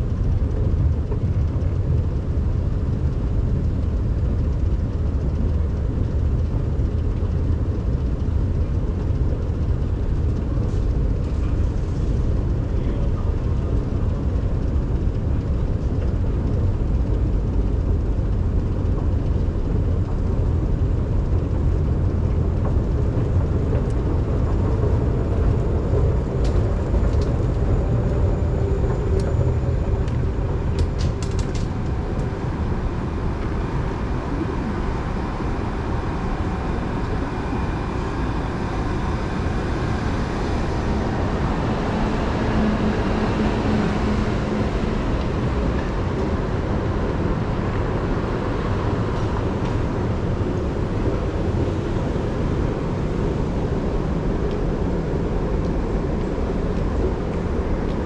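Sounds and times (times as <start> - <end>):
escalator rumbling: 0.0 - 58.0.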